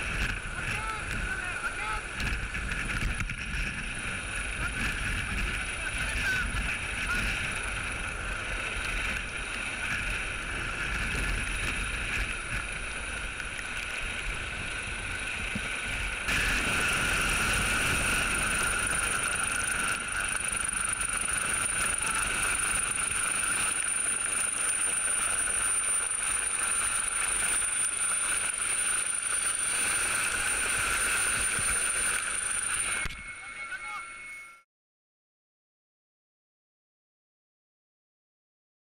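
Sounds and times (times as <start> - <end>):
rotor downwash buffeting microphone: 0.0 - 34.2
helicopter hovering: 0.0 - 34.6.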